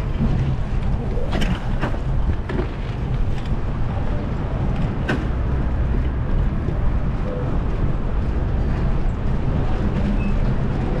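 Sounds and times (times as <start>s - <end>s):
road and traffic rumble: 0.0s - 11.0s
wind buffeting microphone: 0.0s - 11.0s.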